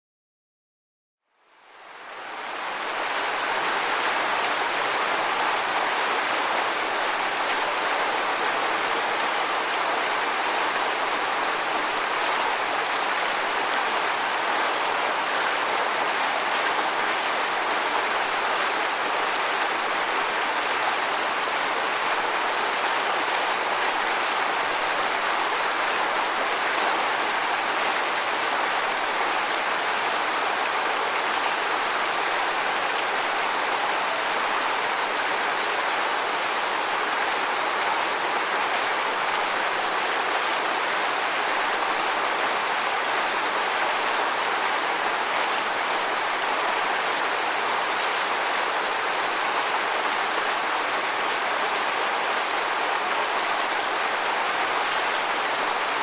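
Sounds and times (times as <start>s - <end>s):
waterfall rushing: 1.6s - 56.0s.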